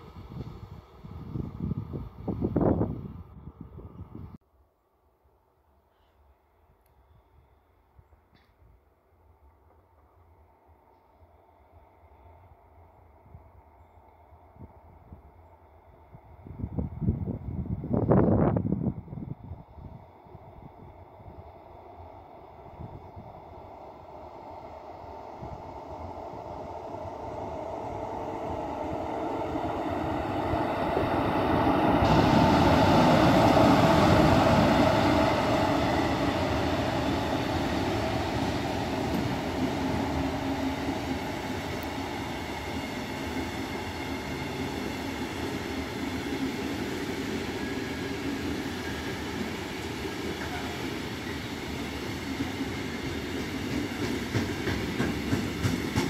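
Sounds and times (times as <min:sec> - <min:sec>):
freight train passing: 0:00.0 - 0:04.4, 0:05.3 - 0:56.0.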